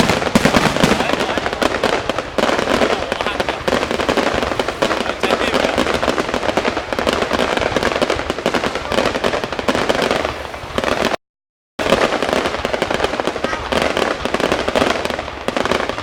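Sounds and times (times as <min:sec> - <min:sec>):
fireworks bangs and crackling: 0:00.0 - 0:11.2, 0:11.8 - 0:16.0.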